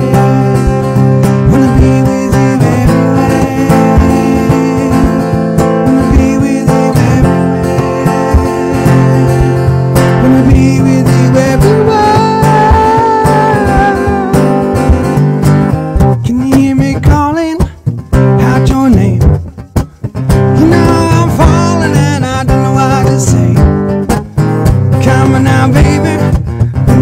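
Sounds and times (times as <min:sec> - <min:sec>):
man singing: 0:00.0 - 0:23.9, 0:24.9 - 0:27.0
strummed acoustic guitar: 0:00.0 - 0:27.0.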